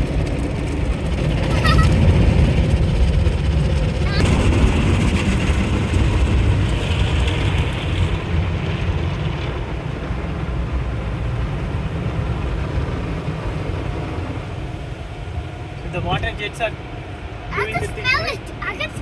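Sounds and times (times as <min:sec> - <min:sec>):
low rumble: 0:00.0 - 0:17.5
car wash equipment rushing: 0:00.0 - 0:19.0.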